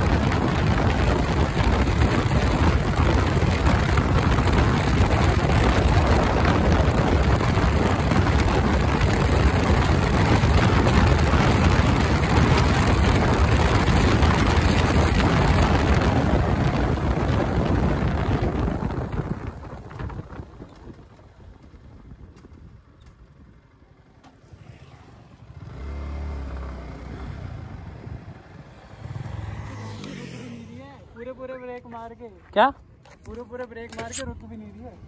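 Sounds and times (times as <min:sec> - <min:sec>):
motorcycle engine running: 0:00.0 - 0:30.8
wind rushing over microphone: 0:00.0 - 0:32.6.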